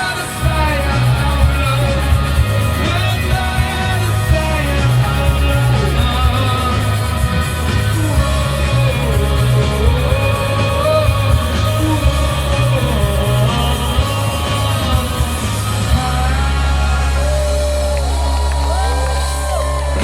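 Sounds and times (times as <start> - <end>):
bass guitar: 0.0 - 20.0
drums: 0.0 - 20.0
electric guitar: 0.0 - 20.0
person singing: 0.0 - 20.0.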